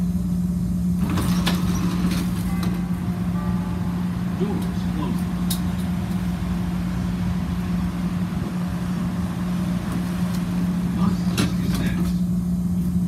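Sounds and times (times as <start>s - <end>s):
constant low hum: 0.0s - 13.0s
train car rumble: 0.0s - 13.0s.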